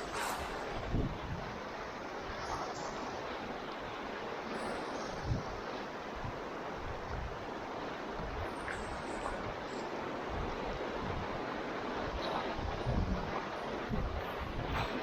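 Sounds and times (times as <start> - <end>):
wind buffeting microphone: 0.0 - 4.4, 5.0 - 15.0
river water rushing: 0.0 - 15.0.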